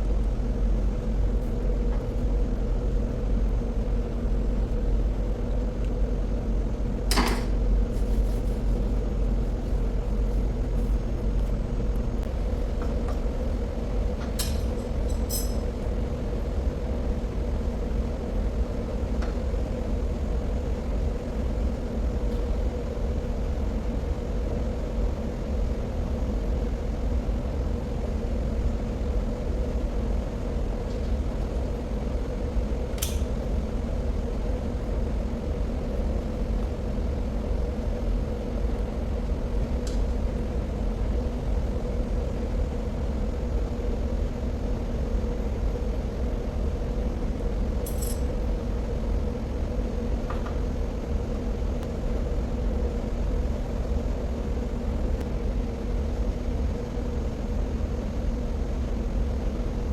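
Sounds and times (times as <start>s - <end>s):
heavy machinery rumble and hum: 0.0s - 59.9s.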